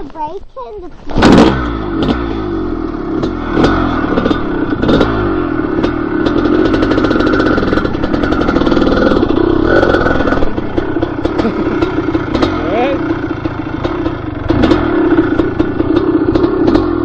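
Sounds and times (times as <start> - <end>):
dirt bike engine revving: 1.1 - 17.0.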